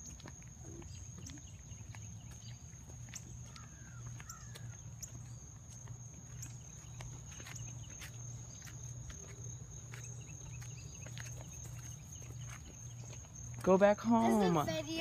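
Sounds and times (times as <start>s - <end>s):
insects trilling: 0.0s - 15.0s
soft footsteps on pavement: 0.0s - 15.0s.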